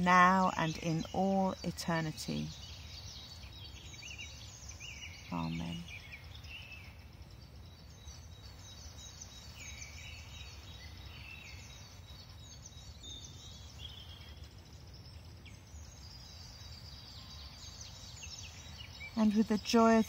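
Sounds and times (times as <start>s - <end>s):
birds singing: 0.0s - 20.0s.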